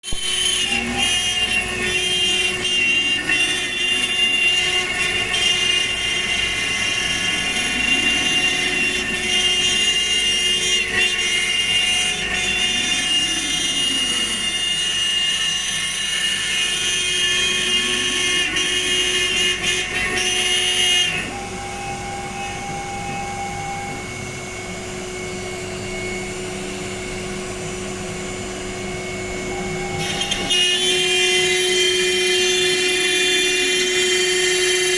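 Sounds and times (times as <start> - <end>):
router spindle whine: 0.0 - 34.9.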